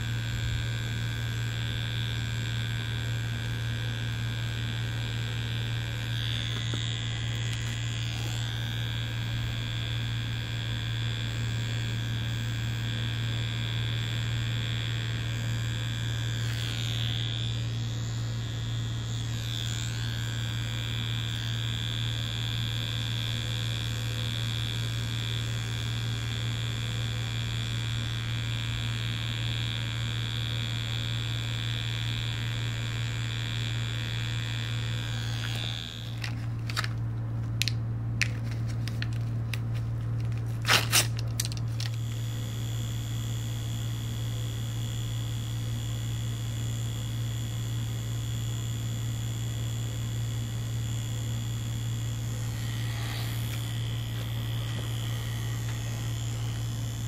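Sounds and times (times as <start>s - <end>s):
tattoo machine buzzing: 0.0s - 37.8s, 40.4s - 57.0s.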